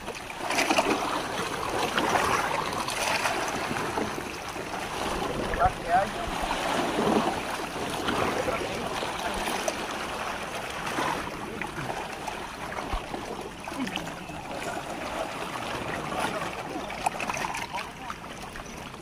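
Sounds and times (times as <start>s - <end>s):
net hauled from water: 0.0s - 19.0s
sea water splashing: 0.0s - 19.0s.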